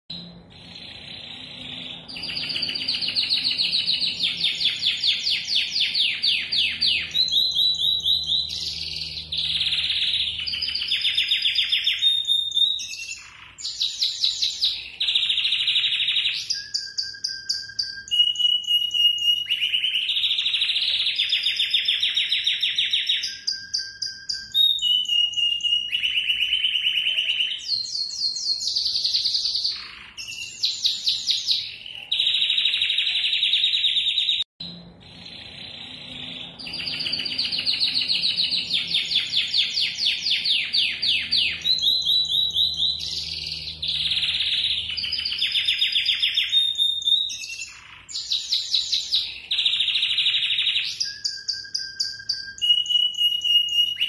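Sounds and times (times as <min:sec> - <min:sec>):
canary singing trills: 0:00.1 - 0:54.0.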